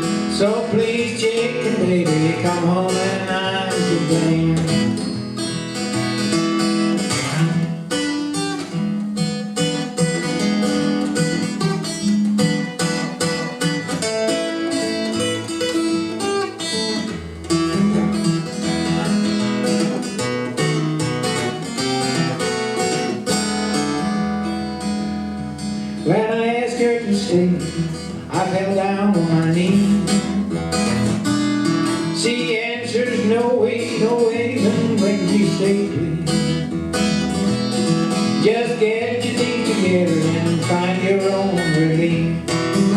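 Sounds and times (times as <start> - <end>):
acoustic guitar playing blues: 0.0 - 42.9.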